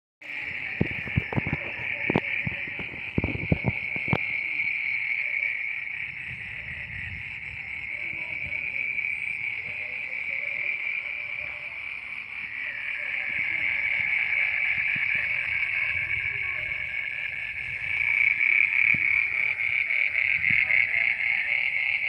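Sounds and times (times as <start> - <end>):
crickets chirping: 0.2 - 22.0.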